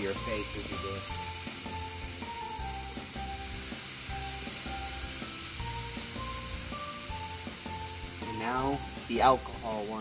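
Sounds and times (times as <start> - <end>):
steaks sizzling on a grill: 0.0 - 10.0.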